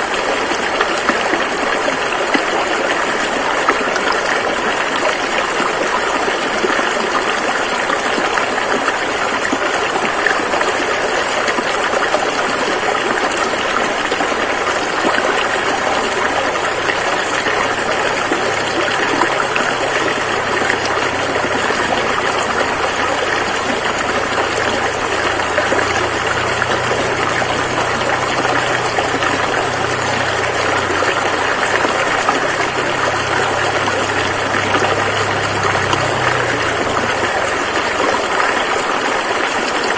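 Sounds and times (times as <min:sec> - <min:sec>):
rushing river: 0:00.0 - 0:39.9.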